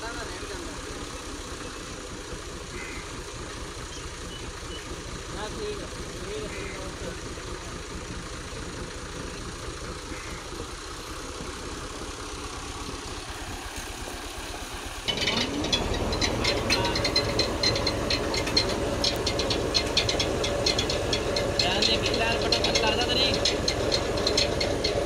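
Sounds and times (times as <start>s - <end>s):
tractor diesel engine running: 0.0s - 25.0s
rapid clatter of ticks and rattles: 2.0s - 25.0s.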